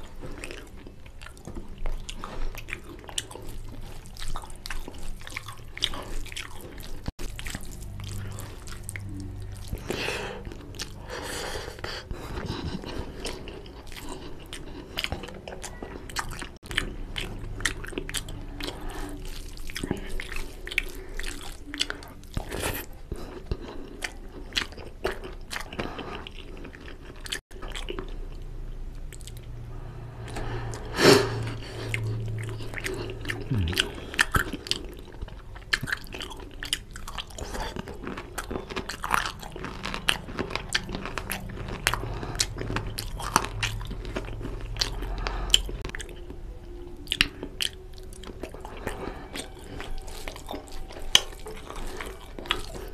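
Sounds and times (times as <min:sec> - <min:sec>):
wet chewing and smacking: 0:00.0 - 0:29.6, 0:30.2 - 0:52.9.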